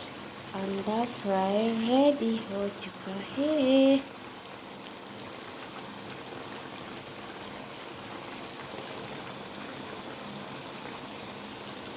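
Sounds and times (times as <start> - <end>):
food sizzling in frying pan: 0.0 - 11.9.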